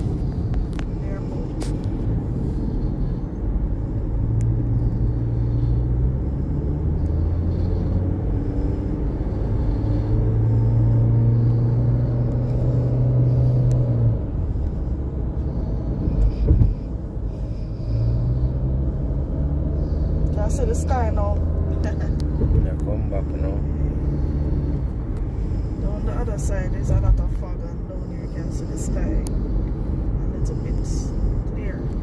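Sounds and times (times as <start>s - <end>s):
car tyre and engine drone: 0.0s - 32.0s.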